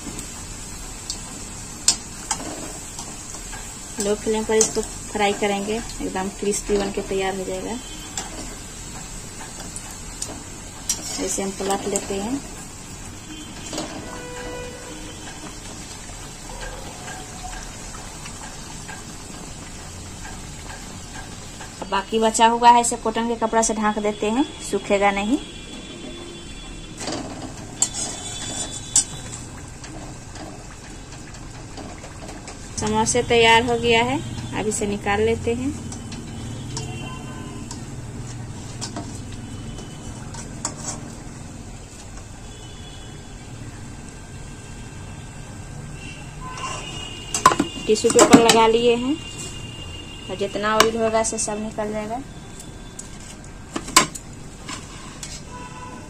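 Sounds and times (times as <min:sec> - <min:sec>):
oil sizzling with small pops: 0:00.0 - 0:56.0.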